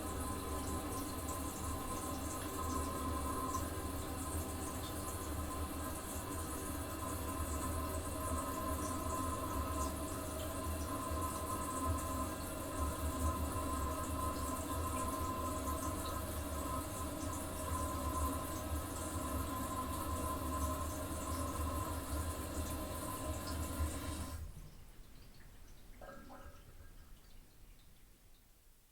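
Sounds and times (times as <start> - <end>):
toilet cistern refilling: 0.0 - 27.7.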